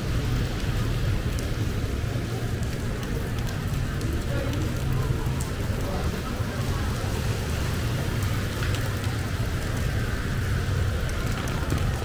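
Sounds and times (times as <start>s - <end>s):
rain falling on pavement: 0.0s - 12.0s.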